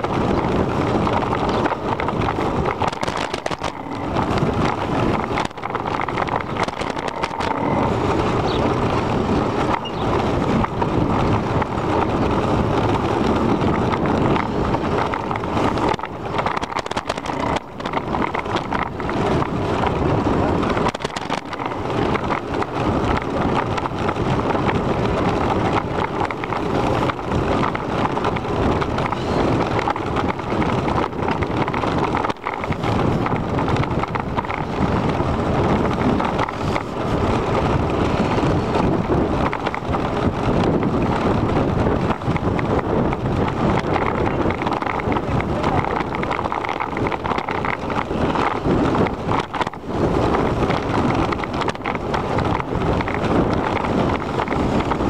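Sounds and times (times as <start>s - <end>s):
bicycle tyre and road rumble: 0.0s - 55.0s
wind buffeting microphone: 0.0s - 55.0s.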